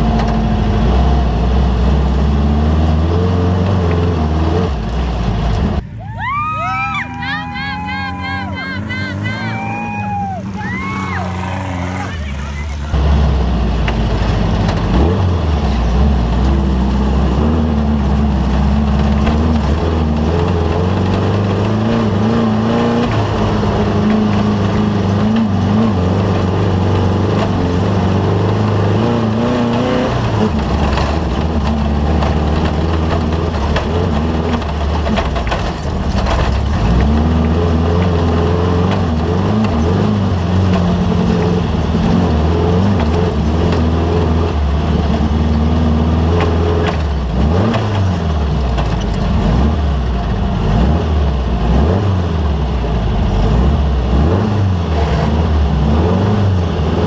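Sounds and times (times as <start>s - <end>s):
race vehicle engine revving: 0.0s - 57.0s.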